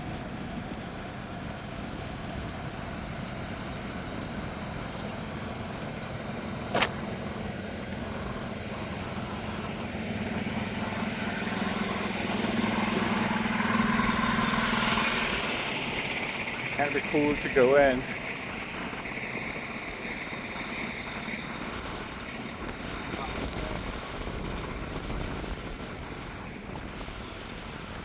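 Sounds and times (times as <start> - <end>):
engine hum: 0.0 - 28.0
outdoor background noise: 0.0 - 28.0.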